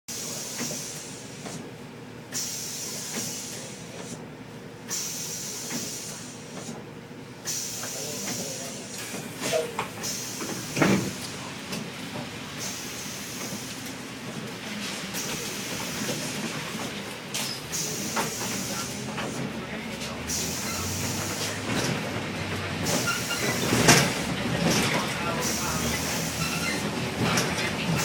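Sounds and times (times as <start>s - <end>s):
bus low rumble: 0.1s - 28.0s.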